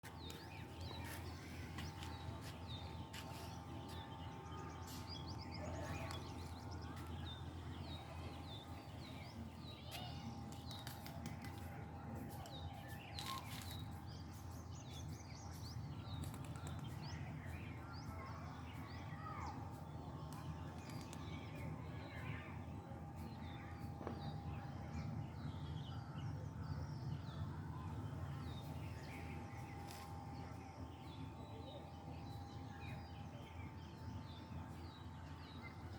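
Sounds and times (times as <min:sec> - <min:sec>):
faint steady hum: 0:00.0 - 0:35.9
small birds chirping: 0:00.0 - 0:35.9.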